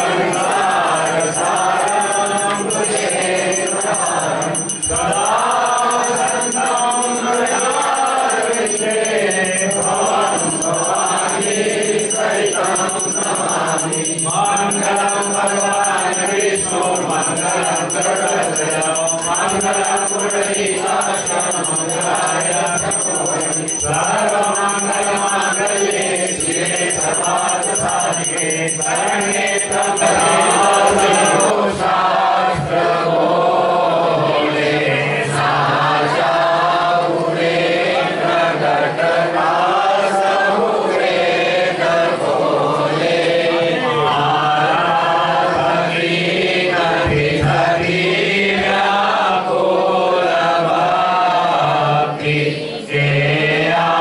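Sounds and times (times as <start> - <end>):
congregation chanting together: 0.0 - 54.0.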